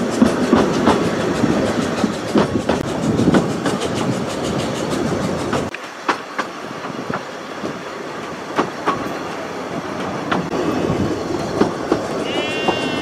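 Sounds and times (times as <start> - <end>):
railway carriage running: 0.0 - 13.0
wheels clicking over rail joints: 0.0 - 13.0.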